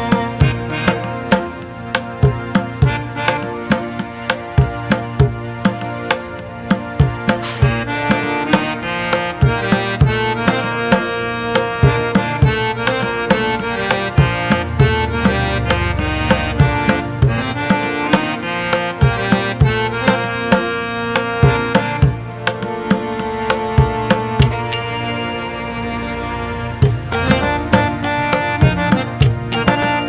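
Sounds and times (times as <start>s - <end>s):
hand drum beat: 0.0s - 25.1s, 26.8s - 30.0s
held melodic notes: 0.0s - 30.0s.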